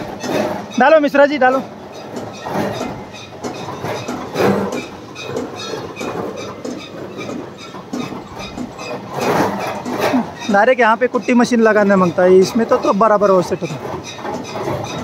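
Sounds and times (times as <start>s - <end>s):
conveyor and chain clattering: 0.0s - 15.0s.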